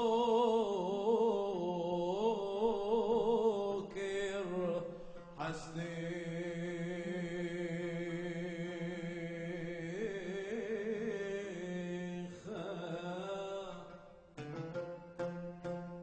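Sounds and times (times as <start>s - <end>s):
man singing liturgical chant: 0.0s - 14.1s.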